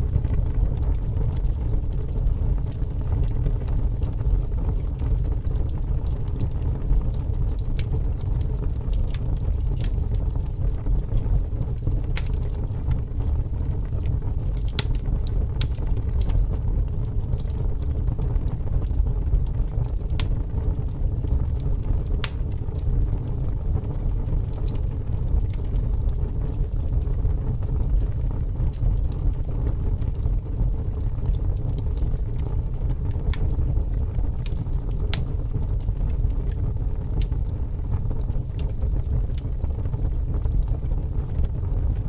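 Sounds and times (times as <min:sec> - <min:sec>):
fire burning with crackles: 0:00.0 - 0:42.0.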